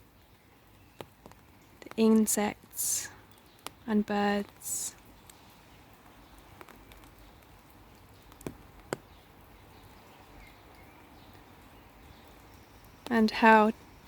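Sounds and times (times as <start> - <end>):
faint outdoor background hush: 0.0 - 14.0.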